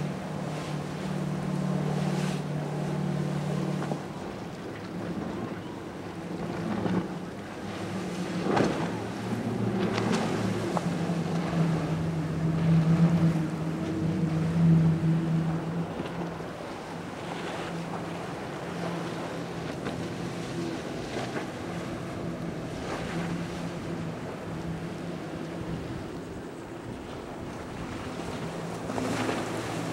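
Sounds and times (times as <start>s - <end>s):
outboard motors droning: 0.0s - 29.9s
rush of hull spray and wake: 0.0s - 29.9s.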